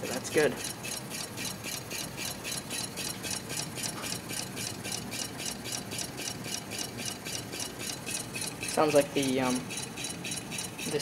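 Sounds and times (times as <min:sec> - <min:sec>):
engine rhythmic rubbing and rattling: 0:00.0 - 0:11.0.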